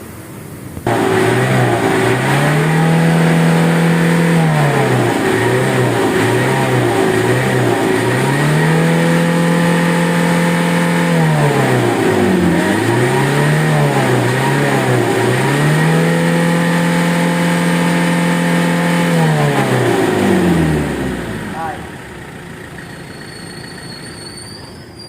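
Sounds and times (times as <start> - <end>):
vehicle engine revving: 0.8 - 24.4.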